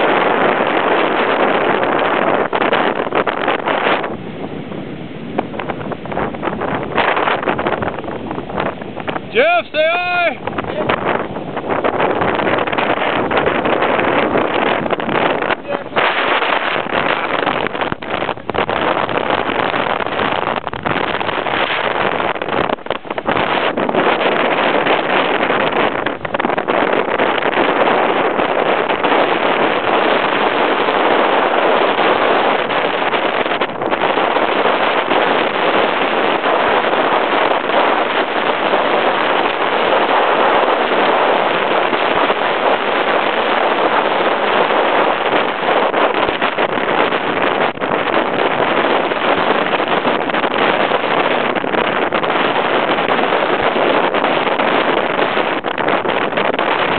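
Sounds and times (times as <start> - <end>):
whitewater rushing: 0.0 - 56.9
wind buffeting microphone: 0.0 - 56.9.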